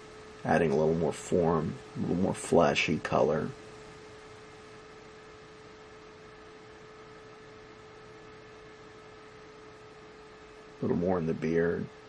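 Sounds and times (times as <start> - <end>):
even background hiss: 0.0 - 12.0
faint steady hum: 0.0 - 12.0.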